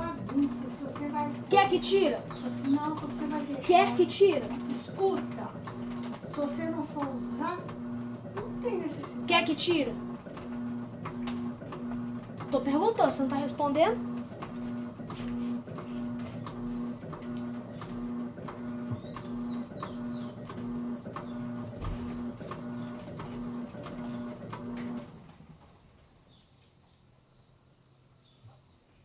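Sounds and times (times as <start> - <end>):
washing machine motor humming: 0.0 - 26.3
birds chirping: 0.0 - 29.0.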